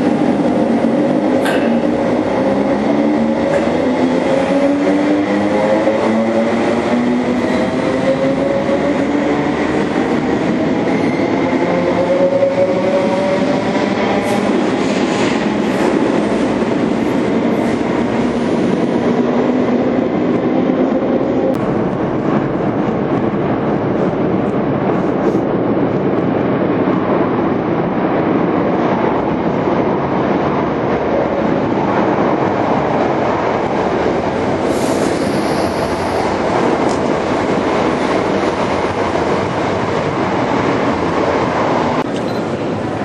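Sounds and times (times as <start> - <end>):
train rumble echoing: 0.0 - 43.0.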